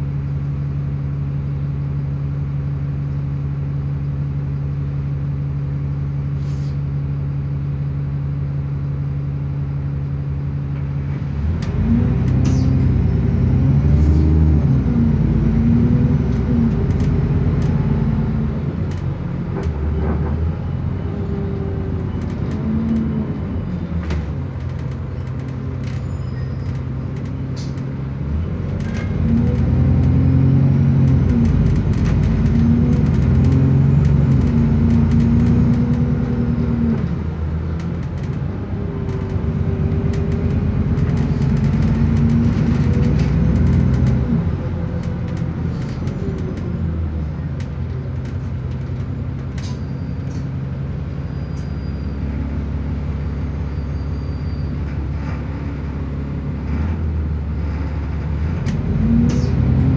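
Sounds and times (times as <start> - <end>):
bus engine: 0.0 - 59.9.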